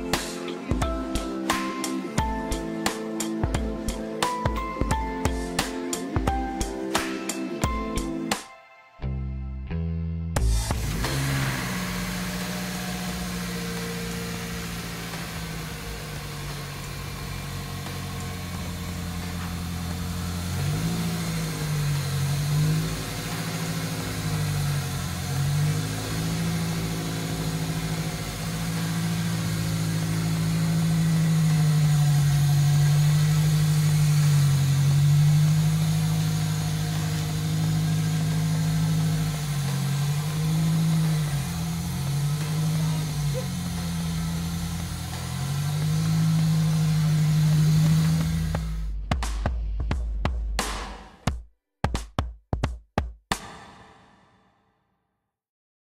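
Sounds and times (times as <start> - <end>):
car engine idling and revving: 0.0 - 8.5, 10.2 - 49.4.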